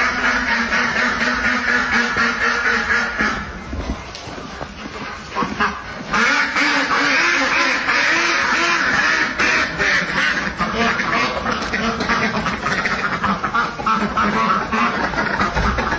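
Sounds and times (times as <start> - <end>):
ducks quacking: 0.0 - 15.9.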